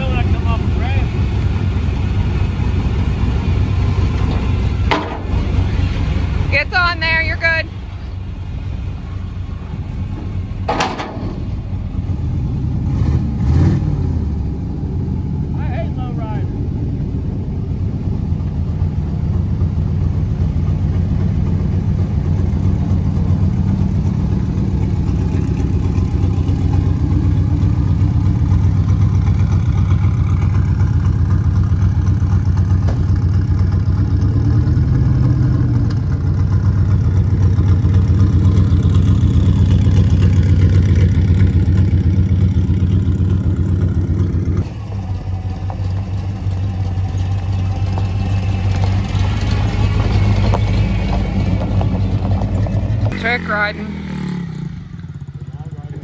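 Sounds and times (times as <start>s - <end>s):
engine idling: 0.0s - 56.0s
truck engine driving: 0.0s - 56.0s.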